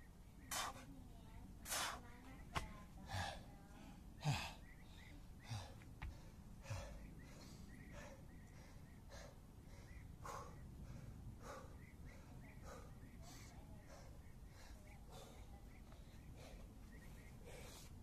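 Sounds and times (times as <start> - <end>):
man breathing hard: 3.1 - 18.0.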